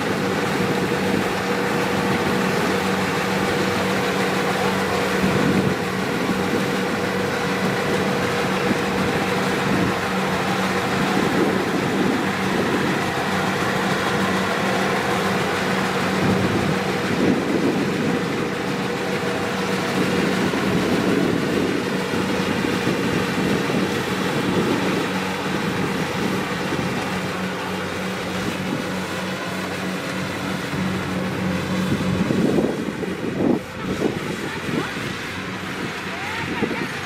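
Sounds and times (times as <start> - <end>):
diesel engine humming: 0.0 - 37.0
harvesting machinery clatter: 0.0 - 37.0.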